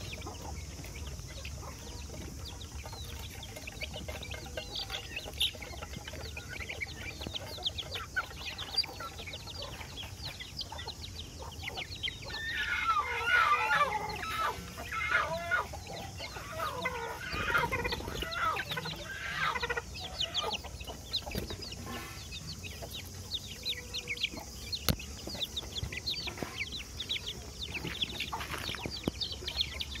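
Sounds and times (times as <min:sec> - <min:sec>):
chickens calling loudly: 0:00.0 - 0:30.0
chicks peeping and cheeping: 0:00.0 - 0:30.0.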